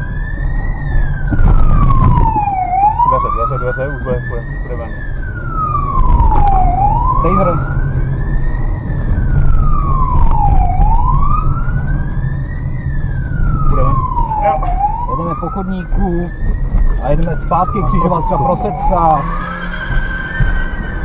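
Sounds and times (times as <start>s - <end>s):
engine and road rumble: 0.0s - 21.0s
police siren wailing: 0.0s - 21.0s.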